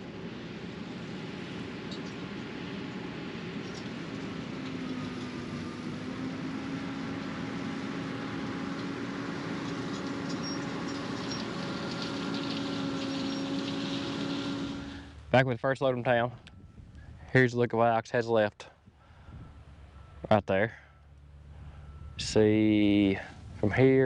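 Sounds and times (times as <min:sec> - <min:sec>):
heavy farm vehicle engine running: 0:00.0 - 0:17.5, 0:18.8 - 0:24.0.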